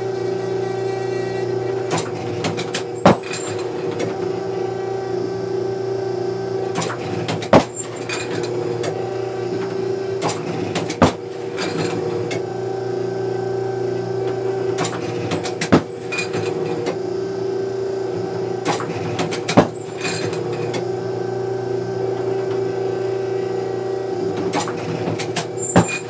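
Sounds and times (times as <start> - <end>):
trap machine humming: 0.0 - 26.0.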